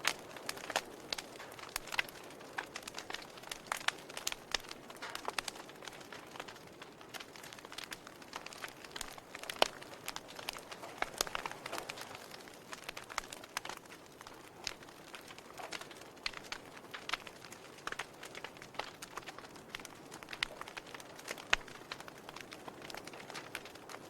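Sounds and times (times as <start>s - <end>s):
soft steady hiss: 0.0s - 24.0s
wood fire crackling and popping: 0.0s - 24.0s.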